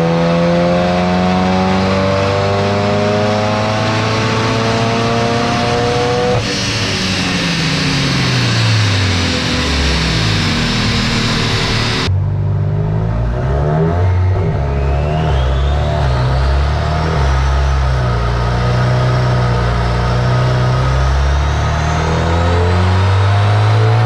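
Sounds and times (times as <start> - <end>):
car engine running hard on a dyno: 0.0 - 12.1, 13.2 - 24.0
turbo whine: 3.7 - 24.0.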